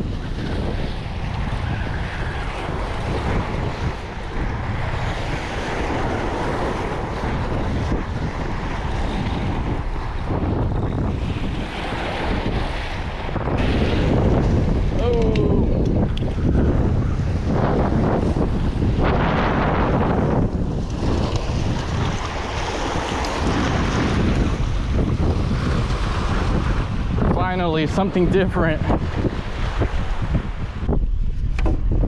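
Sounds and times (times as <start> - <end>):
waves breaking on rocks: 0.0 - 30.7
wind buffeting microphone: 0.0 - 32.0.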